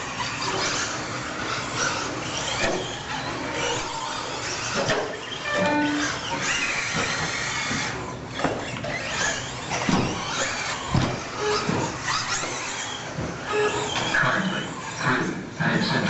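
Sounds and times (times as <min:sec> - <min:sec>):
short squeals: 0:00.0 - 0:15.0
rc trucks racing: 0:00.0 - 0:16.0.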